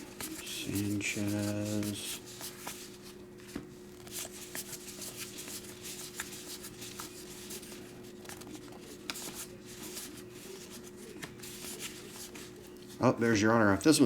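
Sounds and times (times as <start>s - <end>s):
trading cards rustling and clicking: 0.0s - 13.0s
faint steady hum: 0.0s - 14.0s.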